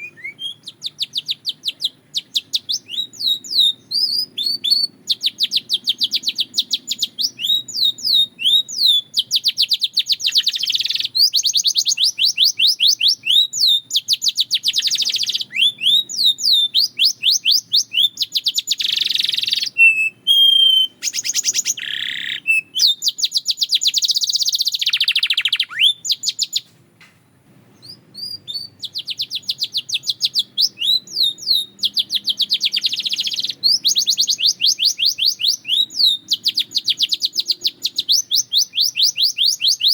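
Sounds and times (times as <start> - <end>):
canary singing trills: 0.0 - 26.7, 27.7 - 39.9.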